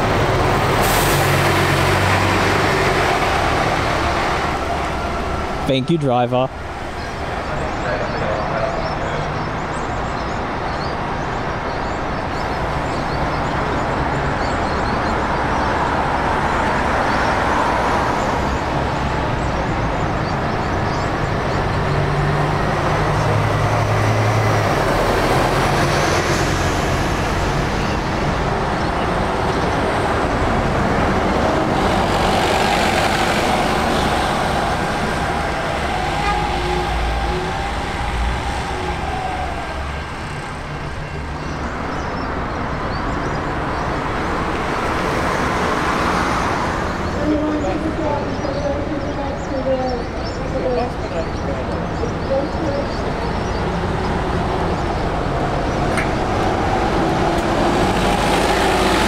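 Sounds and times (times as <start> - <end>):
diesel buses driving past: 0.0 - 59.0
road noise: 0.0 - 59.0.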